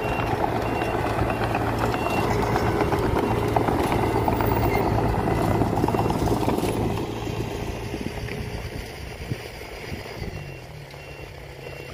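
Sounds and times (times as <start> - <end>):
bulldozer diesel engine running: 0.0 - 11.9.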